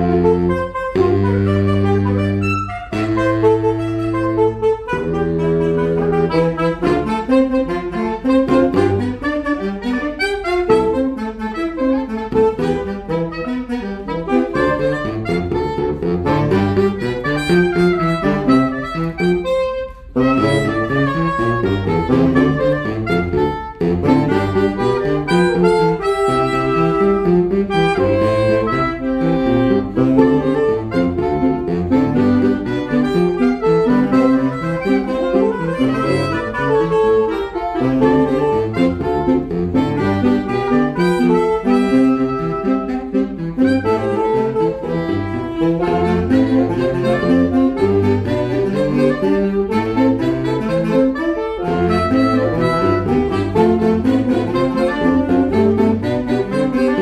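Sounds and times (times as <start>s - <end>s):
saxophone quintet playing: 0.0s - 57.0s.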